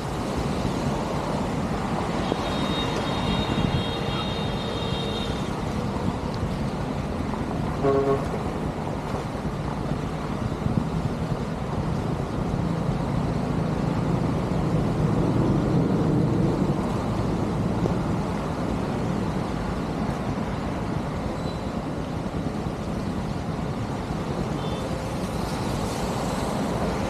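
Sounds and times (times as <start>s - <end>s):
heavy rain on a flooded street: 0.0s - 27.0s.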